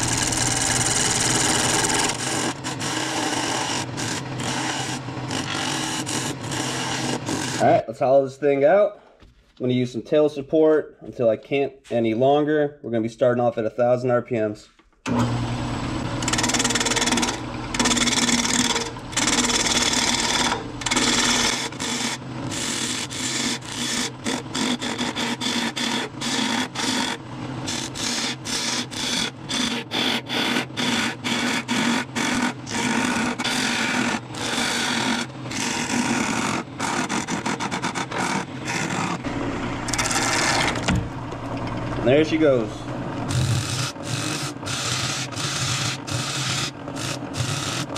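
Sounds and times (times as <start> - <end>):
lathe motor humming: 0.0 - 7.6, 15.1 - 47.9
gouge cutting wood: 0.0 - 7.8, 15.1 - 47.9.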